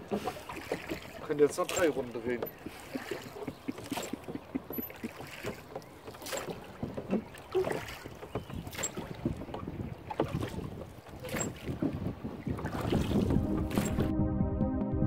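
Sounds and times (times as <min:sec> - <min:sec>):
oars dipping into water: 0:00.0 - 0:14.1
oars knocking in oarlocks: 0:00.0 - 0:14.1.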